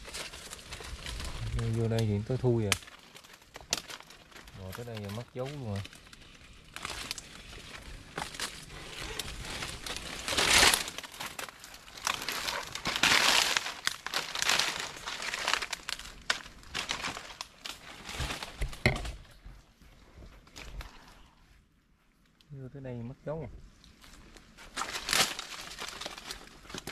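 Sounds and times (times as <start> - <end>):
leaves and branches rustling: 0.0 - 26.9.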